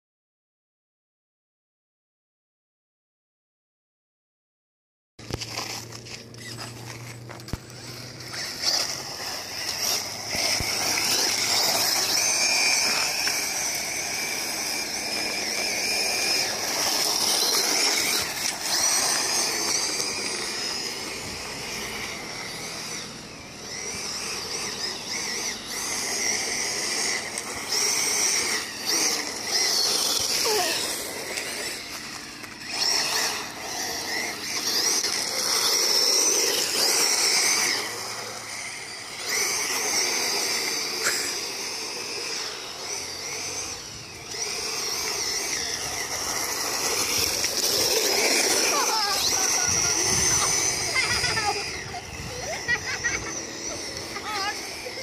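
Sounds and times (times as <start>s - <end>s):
electric motor whine: 5.2s - 55.0s
tyres spraying gravel: 5.3s - 55.0s.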